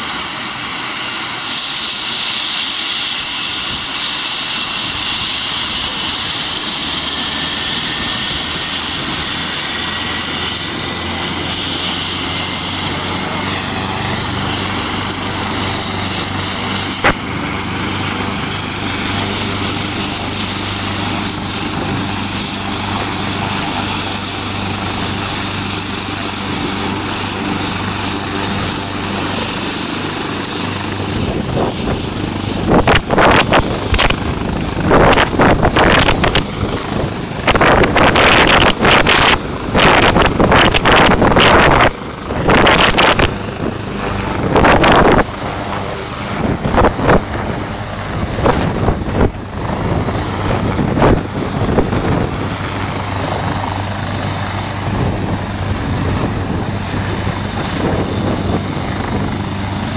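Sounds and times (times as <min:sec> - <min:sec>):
helicopter turbine whine: 0:00.0 - 0:59.9
rotor wash buffeting microphone: 0:00.0 - 0:59.9.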